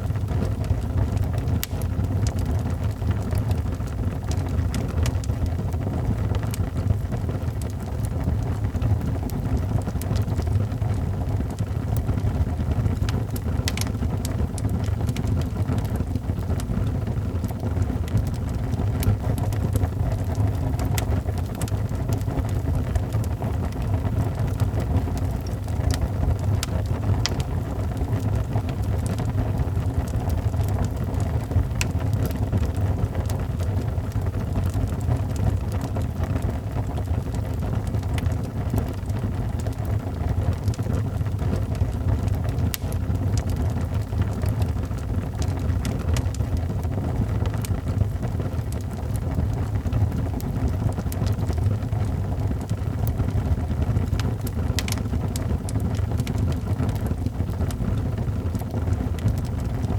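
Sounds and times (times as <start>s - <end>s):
fireplace fire rumbling: 0.0s - 59.9s
wood crackling and popping: 0.0s - 59.9s.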